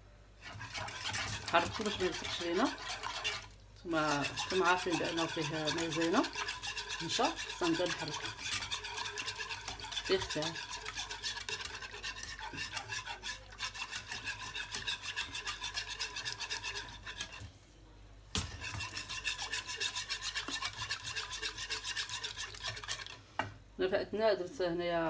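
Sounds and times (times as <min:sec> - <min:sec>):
whisk scraping a saucepan: 0:00.4 - 0:17.6, 0:18.4 - 0:23.2.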